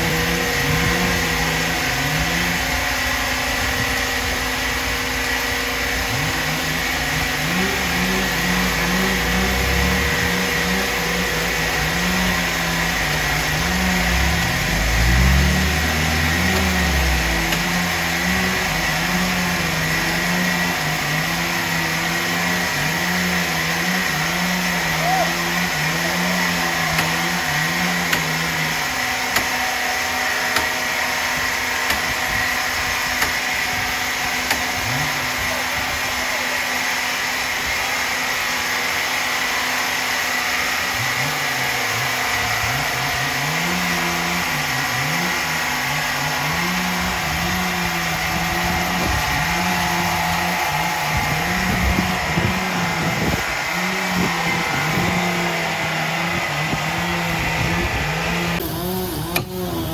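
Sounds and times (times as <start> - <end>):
sawmill motor hum: 0.0 - 59.9.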